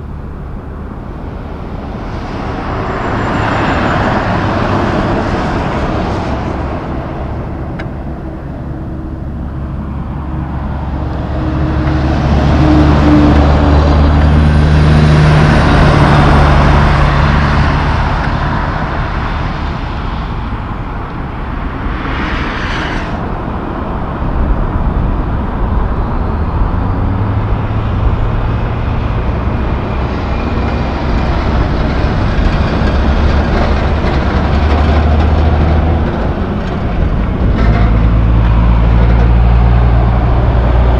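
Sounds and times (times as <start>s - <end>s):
trucks and cars passing: 0.0s - 40.9s.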